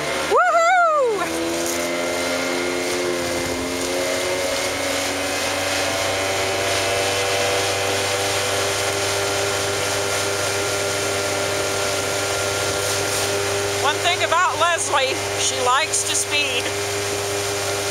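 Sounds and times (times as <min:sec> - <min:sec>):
motorboat engine running hard: 0:00.0 - 0:17.9
rushing water noise: 0:00.0 - 0:17.9.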